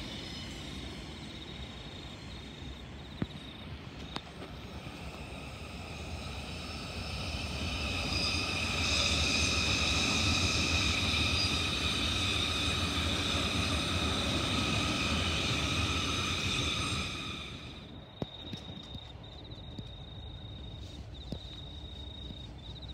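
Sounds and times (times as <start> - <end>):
electric train passing: 0.0 - 20.7.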